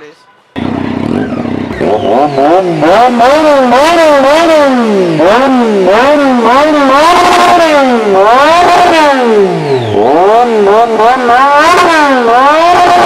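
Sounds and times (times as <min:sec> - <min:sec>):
motorcycle engines revving: 0:00.5 - 0:13.0.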